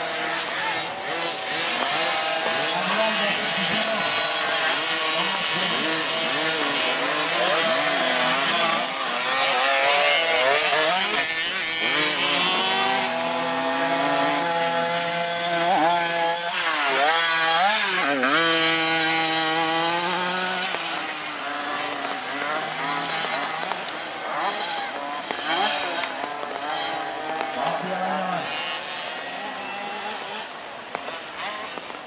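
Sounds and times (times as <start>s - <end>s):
mini motocross bike engines buzzing: 0.0s - 32.0s.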